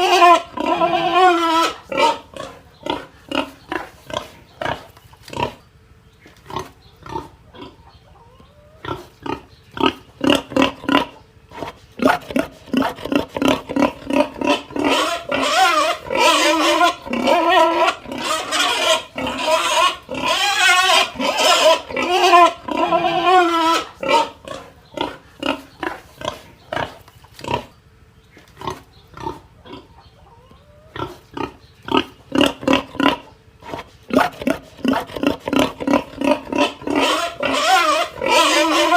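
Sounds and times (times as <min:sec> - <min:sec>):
pigs grunting: 0:00.0 - 0:05.6, 0:06.3 - 0:27.8, 0:28.4 - 0:38.9
pigs squealing: 0:00.0 - 0:05.6, 0:06.5 - 0:27.7, 0:28.6 - 0:38.9.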